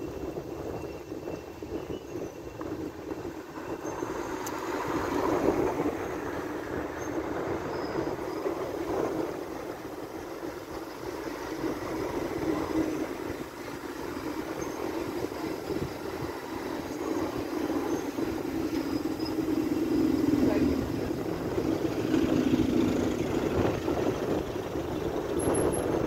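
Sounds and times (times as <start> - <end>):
electric train wheels on rails: 0.0 - 26.0.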